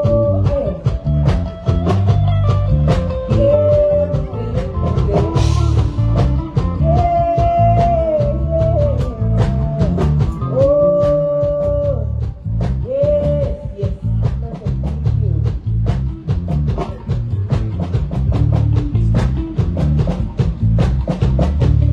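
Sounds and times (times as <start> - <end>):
bass guitar: 0.0 - 21.9
drum kit beat: 0.0 - 21.9.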